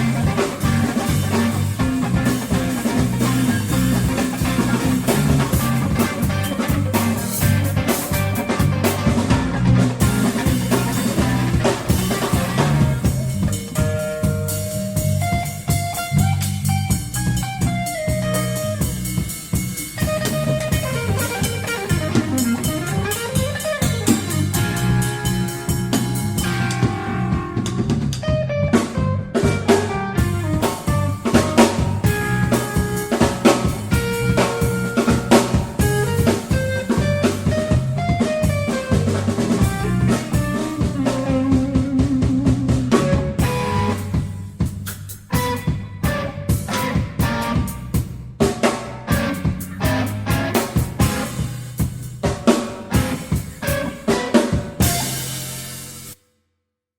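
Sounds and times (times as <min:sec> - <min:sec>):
lead guitar bending notes: 0:00.0 - 0:44.6, 0:45.3 - 0:48.2, 0:48.8 - 0:51.8, 0:52.8 - 0:55.4
drum kit beat with rimshots: 0:00.0 - 0:56.2
rock band jamming: 0:00.0 - 0:56.2.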